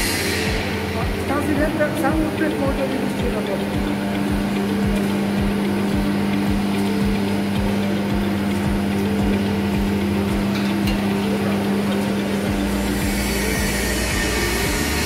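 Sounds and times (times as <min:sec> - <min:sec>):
machinery hum: 0:00.0 - 0:15.0
regular low thumps: 0:00.0 - 0:15.0.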